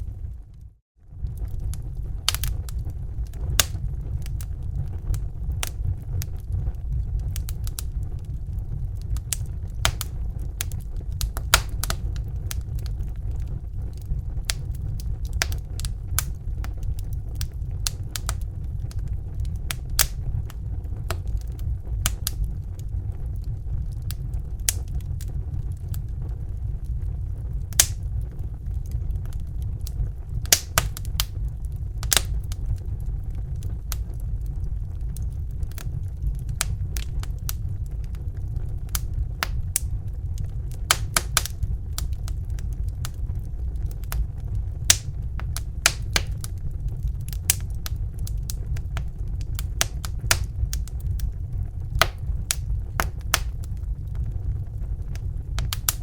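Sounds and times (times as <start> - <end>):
fire crackling and popping: 0.0 - 56.0
low flame roar: 0.0 - 56.0.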